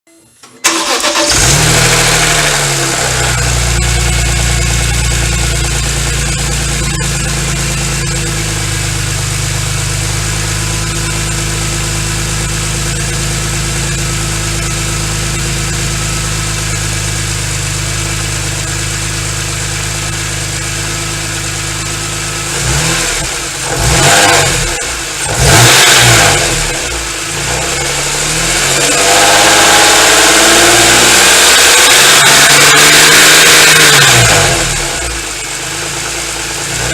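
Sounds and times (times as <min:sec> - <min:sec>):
car engine idling and revving: 0:00.6 - 0:36.9.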